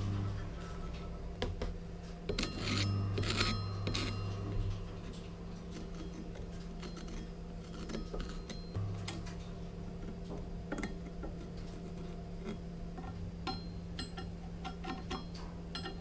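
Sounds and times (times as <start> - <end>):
steady low hum: 0.0 - 16.0
metal pointer tapping and scraping metal: 2.3 - 16.0.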